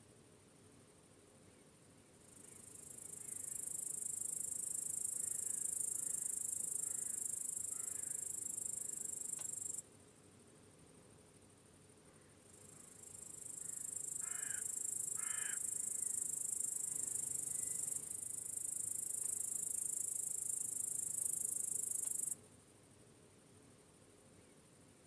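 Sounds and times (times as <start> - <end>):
crickets chirping: 0.2 - 25.0.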